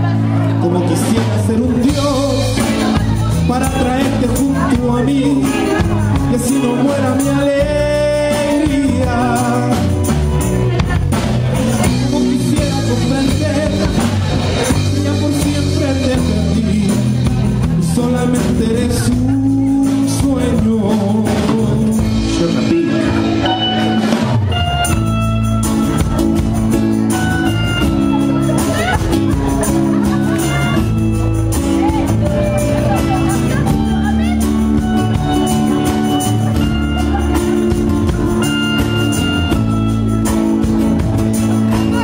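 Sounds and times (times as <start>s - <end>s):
acoustic guitar: 0.0s - 42.0s
congas: 0.0s - 42.0s
drum kit: 0.0s - 42.0s.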